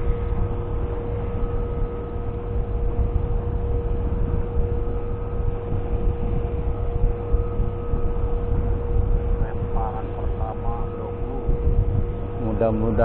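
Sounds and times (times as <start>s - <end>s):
thin steady hum: 0.0s - 13.0s
wind buffeting microphone: 0.0s - 13.0s.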